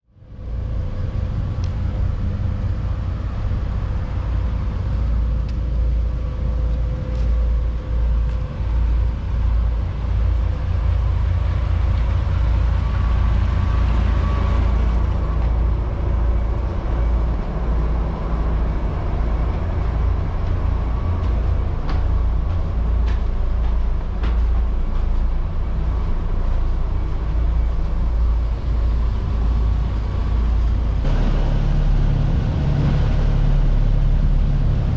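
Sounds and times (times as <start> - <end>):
faint constant hum: 0.1 - 34.9.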